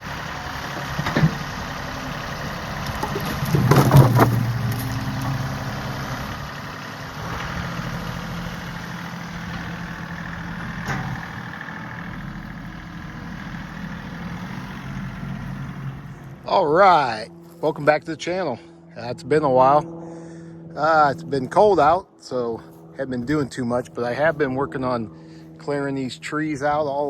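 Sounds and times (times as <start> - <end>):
tractor diesel engine idling: 0.0 - 27.0.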